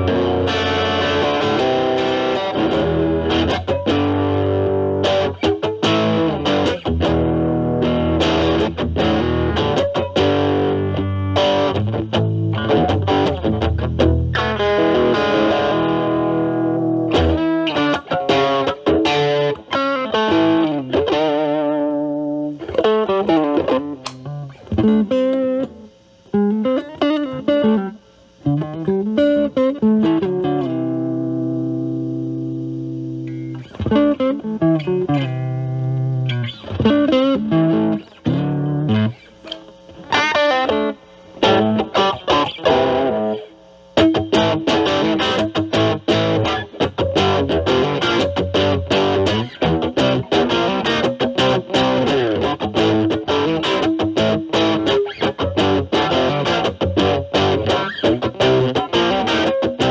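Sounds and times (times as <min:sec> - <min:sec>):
distorted electric guitar: 0:00.0 - 0:59.9.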